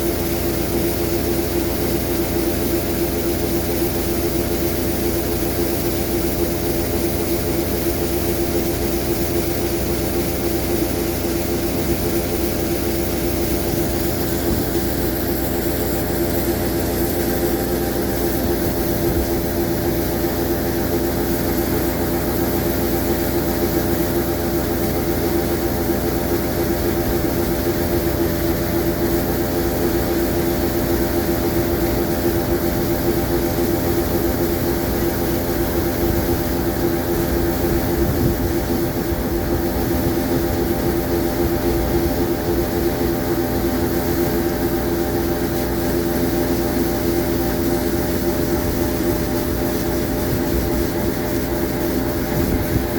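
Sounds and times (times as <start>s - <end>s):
heavy machinery engine droning: 0.0s - 52.9s.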